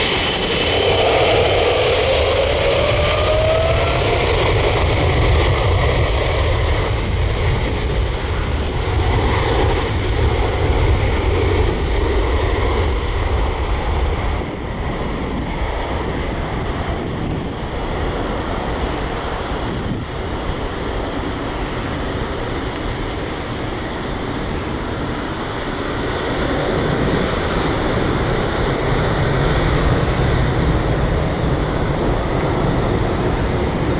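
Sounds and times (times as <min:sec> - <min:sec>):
jet engines at takeoff thrust: 0:00.0 - 0:33.9.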